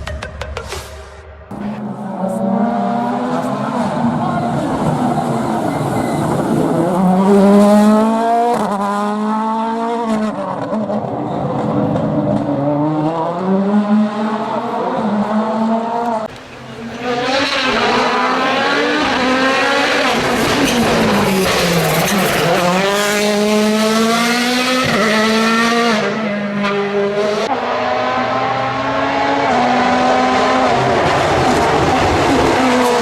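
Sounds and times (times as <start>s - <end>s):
rally car engine shifting gears: 1.5s - 33.0s.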